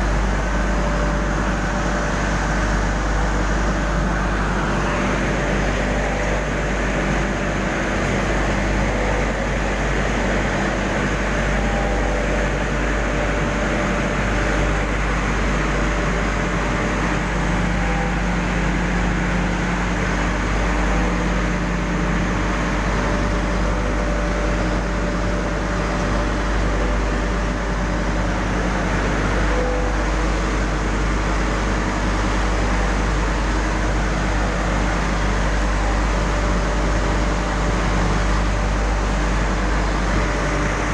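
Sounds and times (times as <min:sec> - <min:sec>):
industrial furnace machinery drone: 0:00.0 - 0:40.9.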